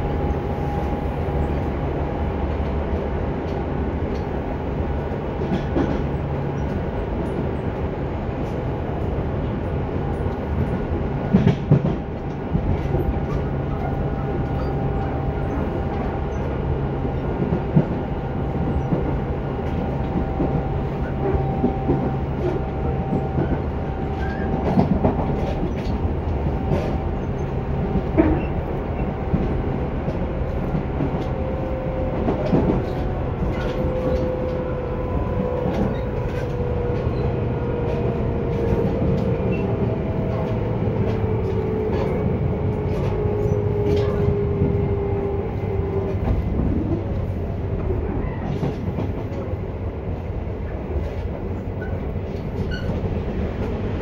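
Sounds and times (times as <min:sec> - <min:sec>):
train wheels rumbling on rail: 0:00.0 - 0:54.0
rail-joint clicks: 0:02.4 - 0:08.7, 0:09.4 - 0:49.6, 0:50.6 - 0:54.0.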